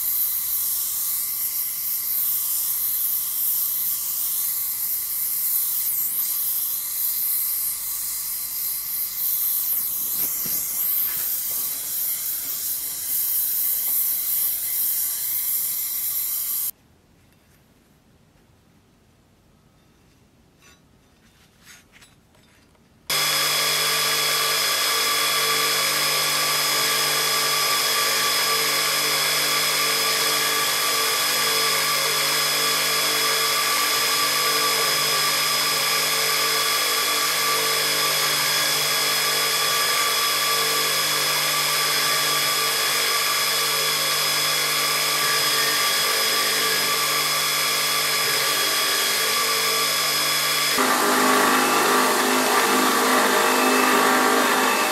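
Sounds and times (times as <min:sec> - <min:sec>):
belt grinder running: 0:00.0 - 0:16.7, 0:23.1 - 0:54.9.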